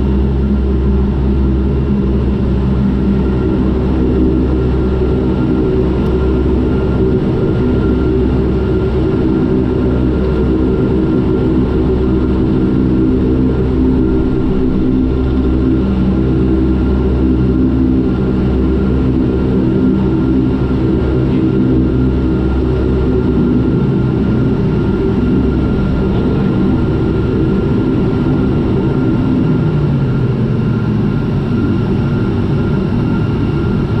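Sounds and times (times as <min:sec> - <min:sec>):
propeller engines droning: 0:00.0 - 0:34.0.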